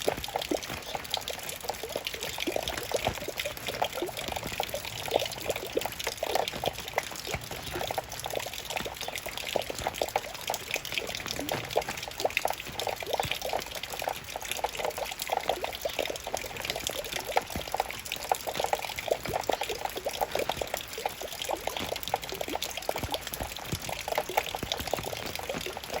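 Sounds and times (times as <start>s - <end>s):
raindrops pattering: 0.0s - 26.0s.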